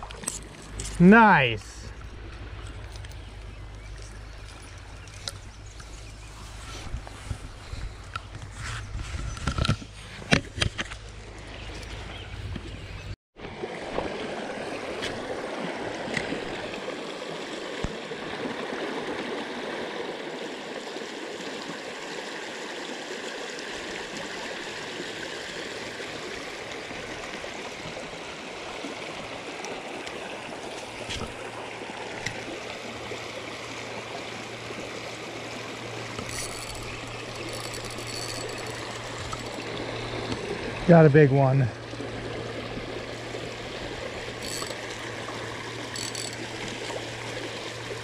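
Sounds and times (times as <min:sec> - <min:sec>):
creek water rushing: 0:00.0 - 0:07.3, 0:13.4 - 0:48.0.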